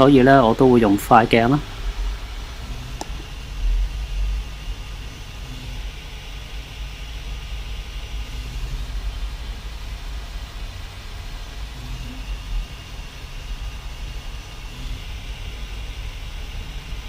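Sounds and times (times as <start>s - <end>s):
printer motors and fan humming: 0.0s - 17.0s.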